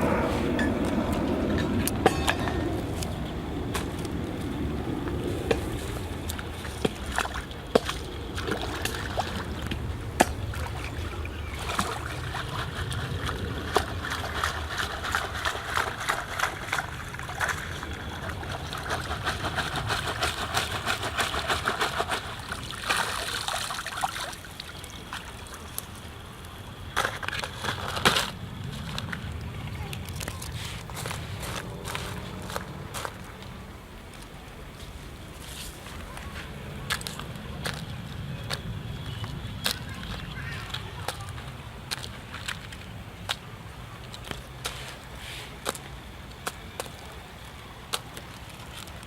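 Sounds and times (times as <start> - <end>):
water sloshing and trickling: 0.0 - 49.0.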